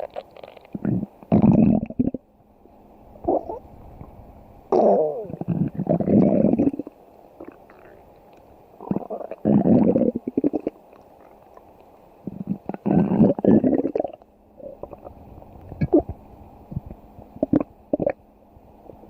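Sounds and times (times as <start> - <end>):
stomach growling: 0.0 - 2.2, 3.2 - 18.2.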